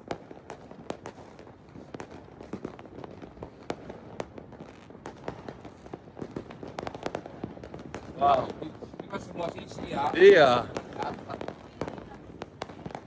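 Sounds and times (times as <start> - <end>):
fireworks crackling: 0.0 - 13.0
fireworks popping and banging: 0.0 - 13.0.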